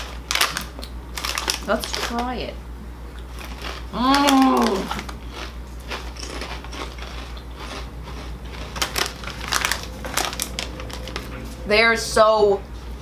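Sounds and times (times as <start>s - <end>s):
chip bag crackling: 0.0s - 2.4s, 3.3s - 11.6s
potato chips crunched and chewed: 0.0s - 2.4s, 3.2s - 11.3s.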